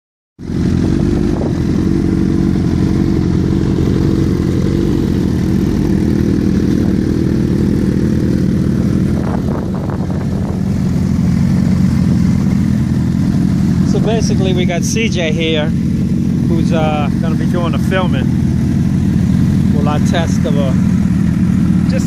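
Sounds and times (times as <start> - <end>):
motorcycle engine idling: 0.4 - 22.0.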